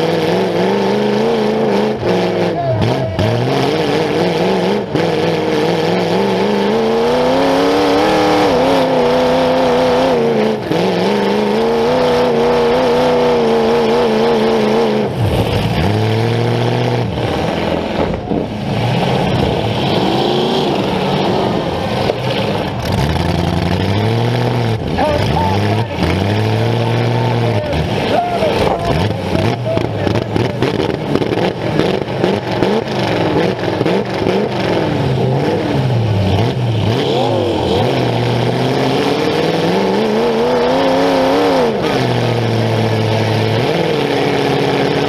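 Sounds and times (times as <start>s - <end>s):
car engine revving through open exhaust: 0.0s - 45.0s.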